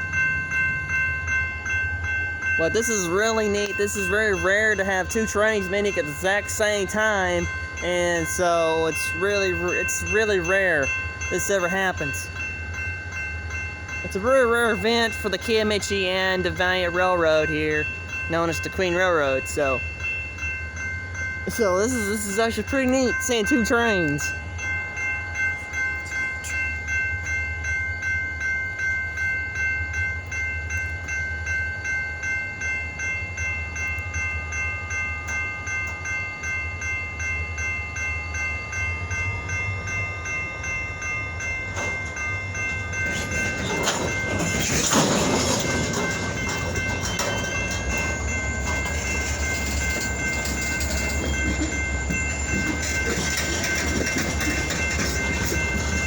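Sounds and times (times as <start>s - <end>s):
diesel locomotive rumble: 0.0s - 56.0s
train moving on rails: 0.0s - 56.0s.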